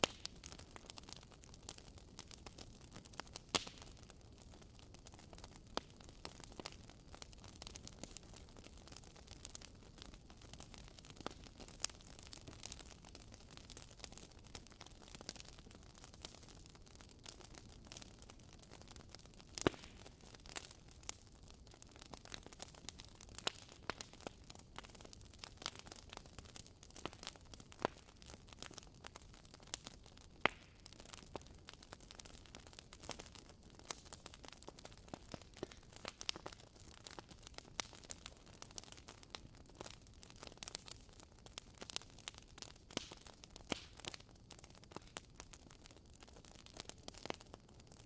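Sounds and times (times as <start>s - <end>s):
firewood crackling: 0.0s - 48.0s.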